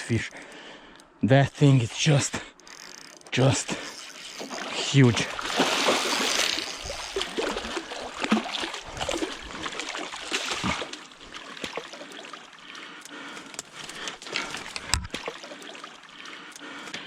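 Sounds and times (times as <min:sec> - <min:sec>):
water splashing and sloshing: 0:02.5 - 0:17.0.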